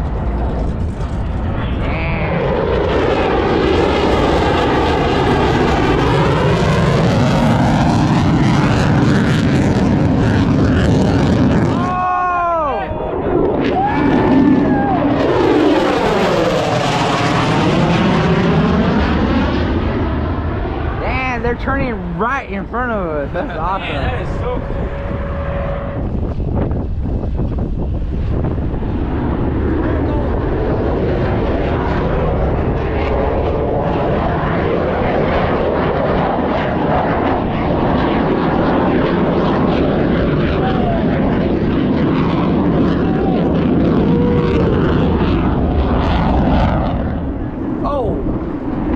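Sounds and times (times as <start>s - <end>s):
jet aircraft roaring past: 0.0s - 48.9s.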